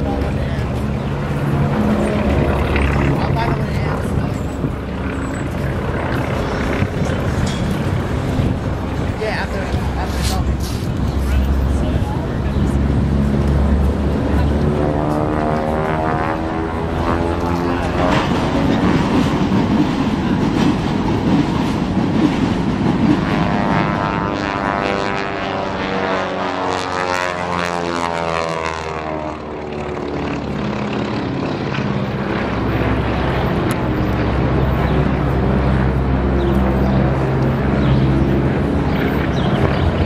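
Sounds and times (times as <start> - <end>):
radial engines droning: 0.0 - 40.0.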